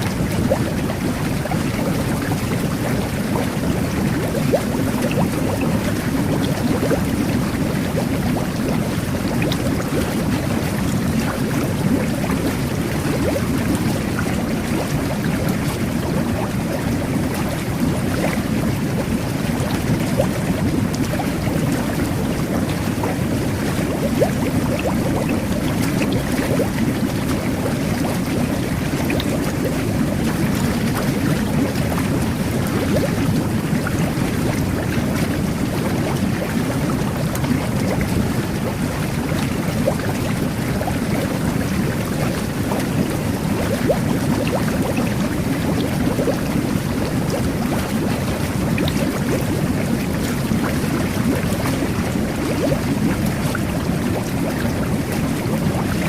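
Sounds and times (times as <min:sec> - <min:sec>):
jet bath water churning: 0:00.0 - 0:56.0.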